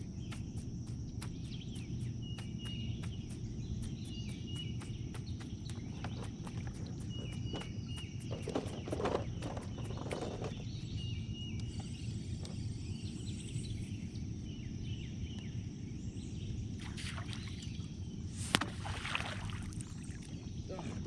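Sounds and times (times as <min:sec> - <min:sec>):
low outdoor rumble: 0:00.0 - 0:18.8.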